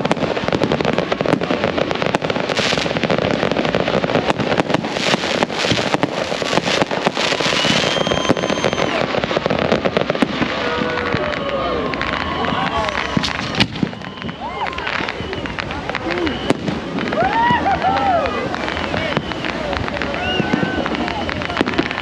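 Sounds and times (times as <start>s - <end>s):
fireworks crackling and banging: 0.0s - 22.0s
high firework whistle: 0.0s - 22.0s.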